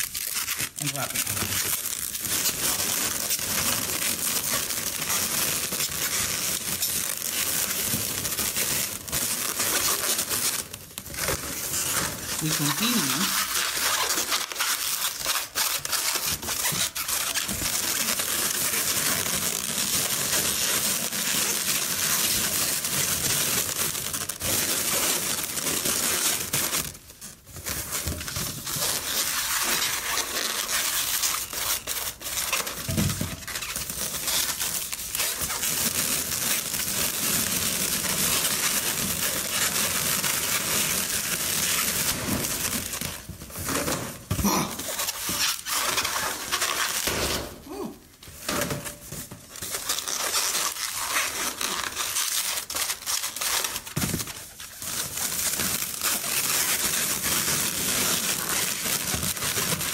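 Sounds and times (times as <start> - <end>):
balloons rubbing and crinkling: 0.0 - 59.9.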